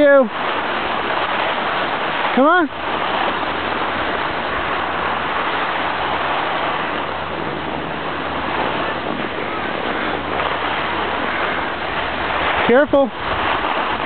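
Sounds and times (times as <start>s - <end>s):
skis sliding over snow: 0.0s - 14.0s
wind on microphone: 0.0s - 14.0s.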